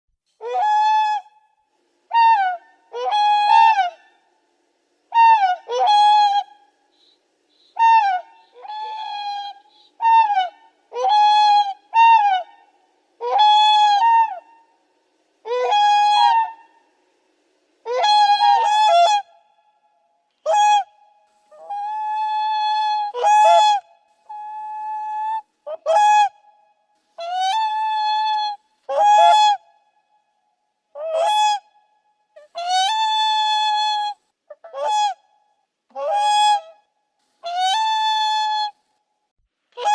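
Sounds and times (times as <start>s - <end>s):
swan honking calls: 0.4s - 1.4s, 2.1s - 4.4s, 5.1s - 14.8s, 15.4s - 16.9s, 17.8s - 19.6s, 20.4s - 29.9s, 31.0s - 36.8s, 37.4s - 38.8s.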